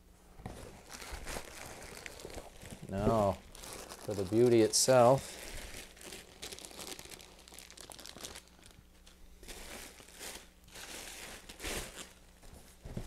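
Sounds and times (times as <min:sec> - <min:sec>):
plastic packing crinkling: 0:00.6 - 0:13.0.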